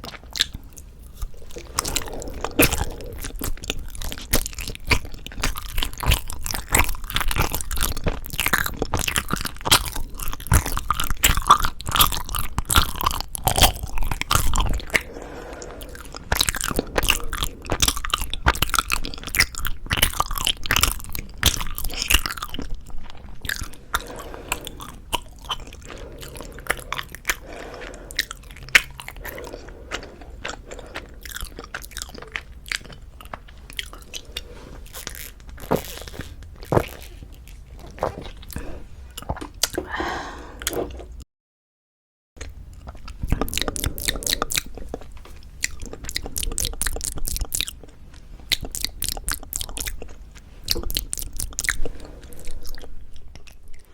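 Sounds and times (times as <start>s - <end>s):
chewing rice cake: 0.0s - 40.0s, 42.4s - 53.9s.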